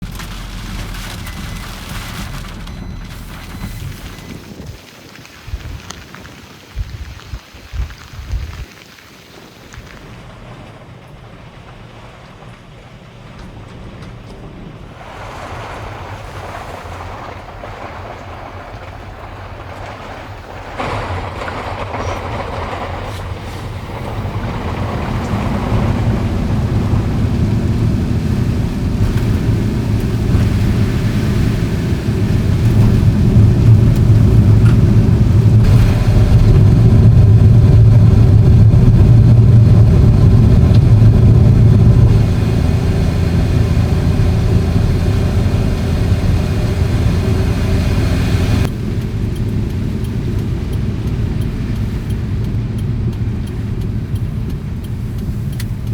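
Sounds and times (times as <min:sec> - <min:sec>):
vehicle engine and road drone: 0:00.0 - 0:04.9, 0:09.5 - 0:55.9.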